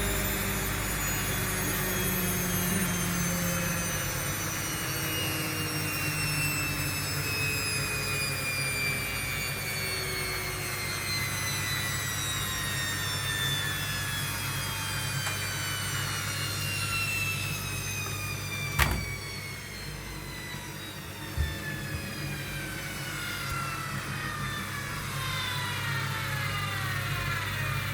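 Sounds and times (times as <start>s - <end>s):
washing machine drum whine: 0.0s - 27.9s.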